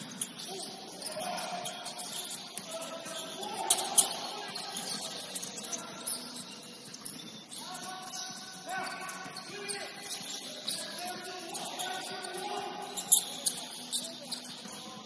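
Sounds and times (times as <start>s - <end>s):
echoing voices: 0.0s - 15.0s.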